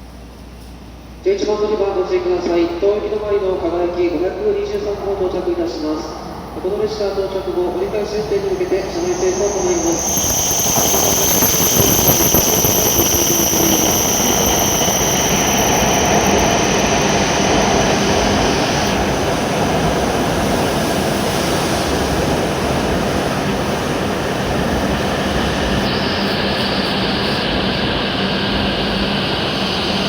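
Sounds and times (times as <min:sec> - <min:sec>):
train running noise: 0:00.0 - 0:30.0
high whine: 0:01.2 - 0:30.0.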